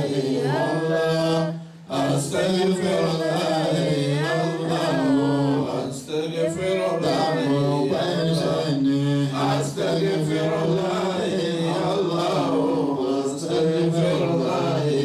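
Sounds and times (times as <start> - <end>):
leading voice chanting: 0.0 - 15.0
men chanting low drone: 0.0 - 15.0.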